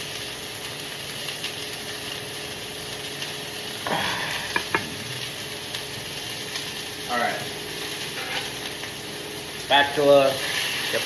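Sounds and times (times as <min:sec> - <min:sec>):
chicken sizzling in a pan: 0:00.0 - 0:11.0
range hood fan humming: 0:00.0 - 0:11.0.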